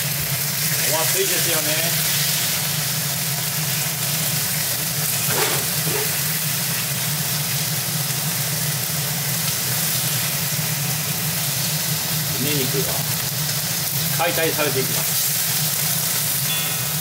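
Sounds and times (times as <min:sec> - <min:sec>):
vegetables sizzling in a wok: 0:00.0 - 0:17.0.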